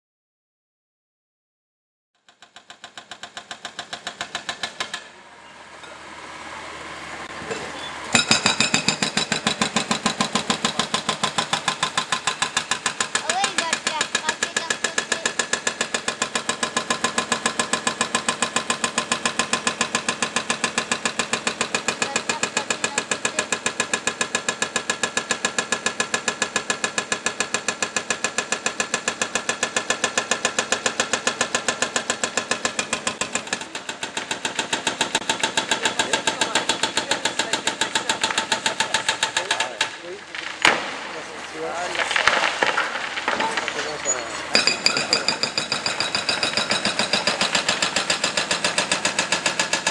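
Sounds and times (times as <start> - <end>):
hydraulic breaker hammering stone: 2.3 - 5.2, 7.4 - 49.9.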